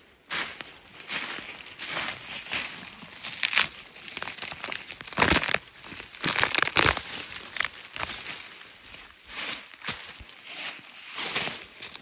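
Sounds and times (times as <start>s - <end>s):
dry leaves and twigs crunching: 0.0s - 12.0s.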